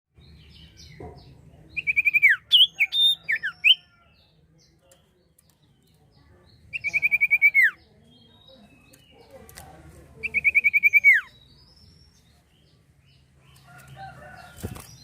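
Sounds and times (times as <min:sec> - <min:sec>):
songbird singing: 0:00.1 - 0:15.0.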